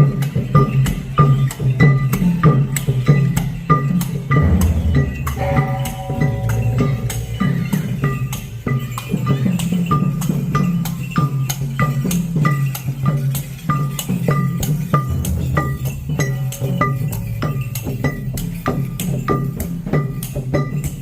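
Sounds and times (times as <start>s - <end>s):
drums keeping a steady beat: 0.0s - 21.0s
small cymbals clinking: 0.0s - 21.0s.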